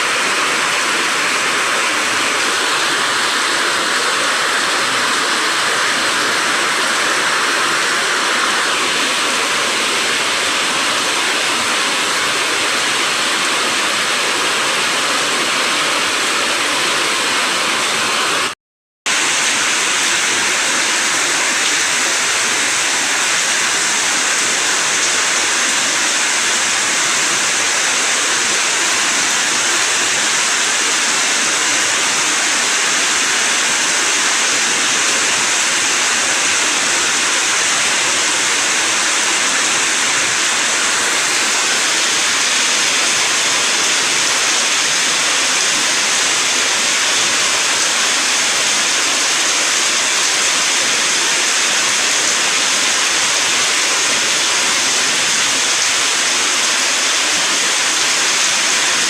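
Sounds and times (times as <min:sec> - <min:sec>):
water rushing: 0:00.0 - 0:59.0.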